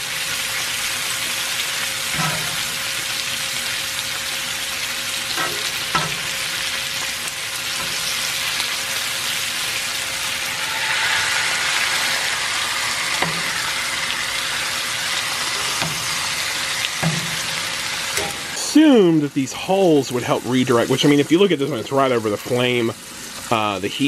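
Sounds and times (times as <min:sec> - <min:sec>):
bacon sizzling on a griddle: 0:00.0 - 0:24.0.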